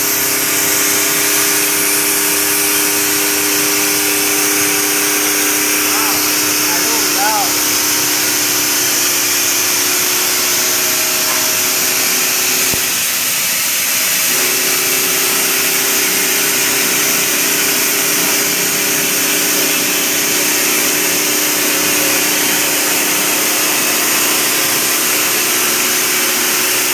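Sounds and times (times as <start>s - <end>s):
machine hiss: 0.0s - 26.9s.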